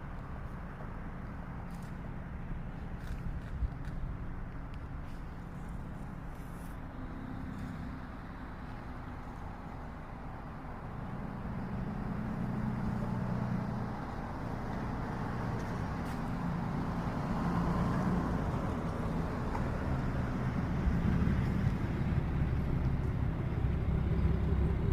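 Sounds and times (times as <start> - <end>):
road noise: 0.0 - 24.9
vehicle engines rumbling: 0.0 - 24.9.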